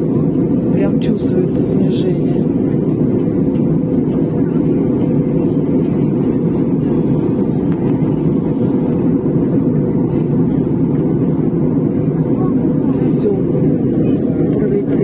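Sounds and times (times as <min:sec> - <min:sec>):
airliner cabin engine rush: 0:00.0 - 0:15.0.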